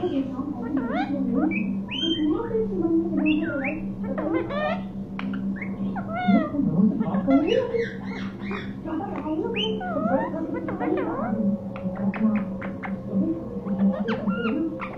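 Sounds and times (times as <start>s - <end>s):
parakeet chattering: 0.0s - 14.9s.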